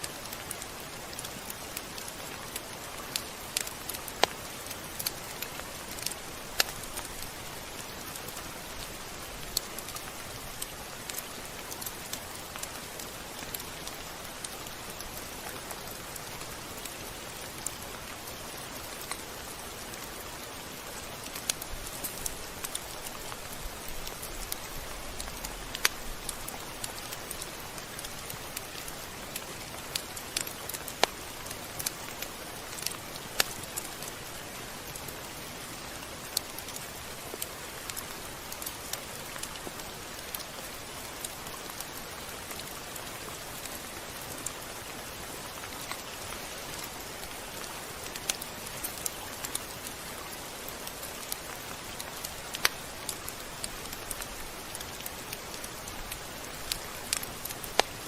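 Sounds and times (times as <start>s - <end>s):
raindrops ticking on surface: 0.0s - 58.0s
steady rain falling: 0.0s - 58.0s.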